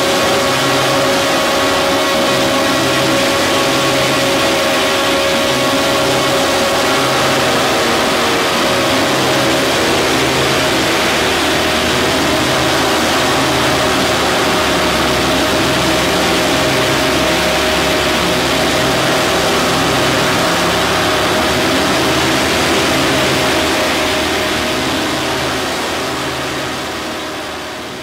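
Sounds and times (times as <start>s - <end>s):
droning noise from sound system: 0.0s - 28.0s
steady hum: 0.0s - 28.0s.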